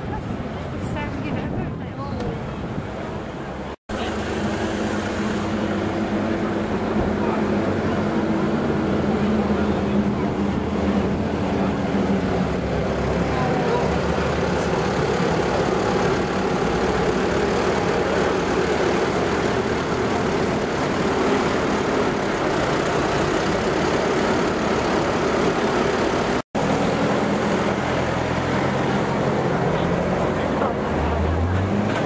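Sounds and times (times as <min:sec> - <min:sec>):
tractor diesel engine passing: 0:02.7 - 0:32.0.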